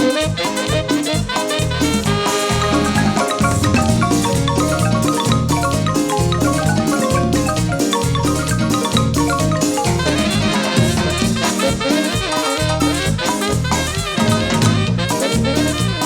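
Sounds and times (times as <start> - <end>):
live band playing cumbia: 0.0 - 16.0.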